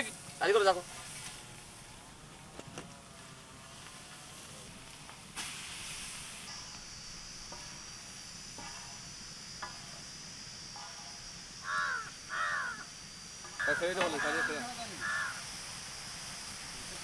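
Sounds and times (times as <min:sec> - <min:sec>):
prawns hissing as they fry: 0:00.0 - 0:17.0.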